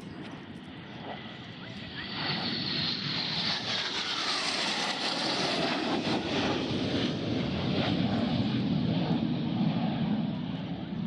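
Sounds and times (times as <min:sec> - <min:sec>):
military jet flying past: 0:00.0 - 0:11.0.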